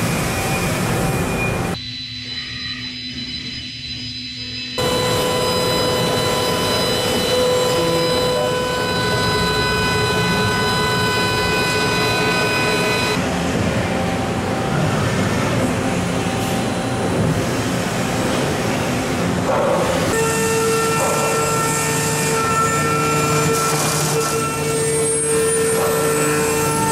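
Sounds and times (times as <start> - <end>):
mechanical rumble and hum: 0.0 - 26.9
milling machine whine: 0.0 - 26.9.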